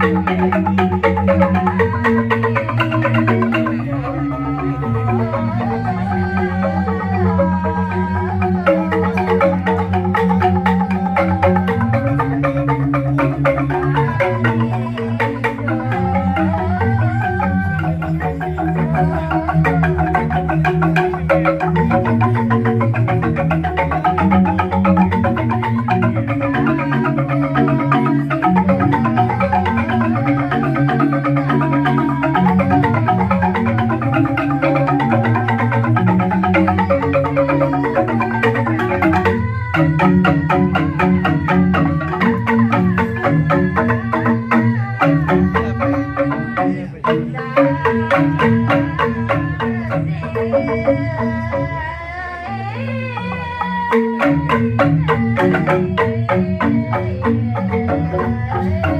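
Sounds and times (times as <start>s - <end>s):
bamboo xylophone ensemble: 0.0s - 58.9s.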